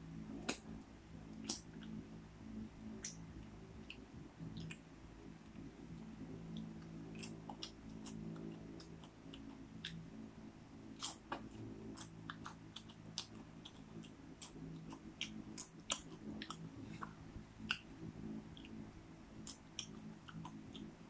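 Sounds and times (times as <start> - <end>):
steady low hum: 0.0 - 21.0
popcorn being chewed: 0.1 - 21.0.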